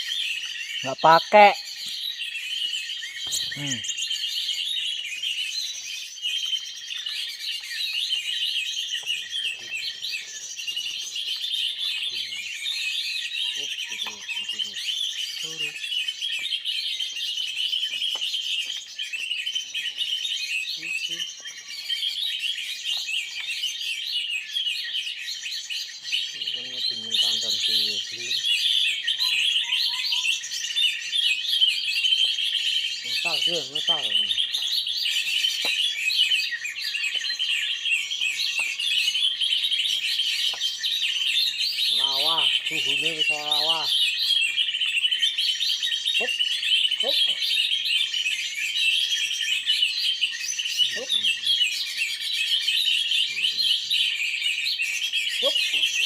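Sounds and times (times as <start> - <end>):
chorus of small birds: 0.0 - 56.0.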